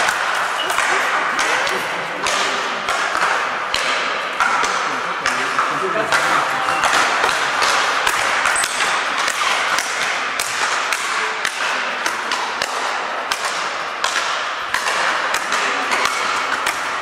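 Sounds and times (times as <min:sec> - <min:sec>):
rackets hitting balls: 0:00.0 - 0:17.0
sports hall background noise: 0:00.0 - 0:17.0.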